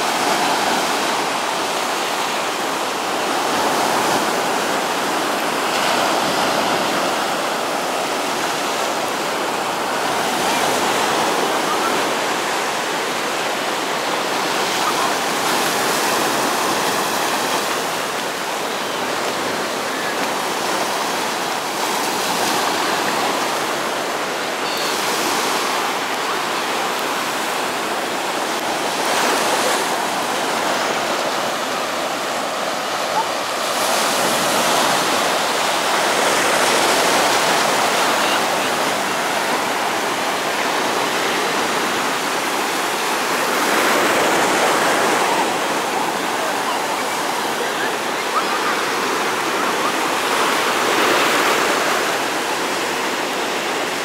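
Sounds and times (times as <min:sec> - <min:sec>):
small waves breaking on shore: 0:00.0 - 0:54.0.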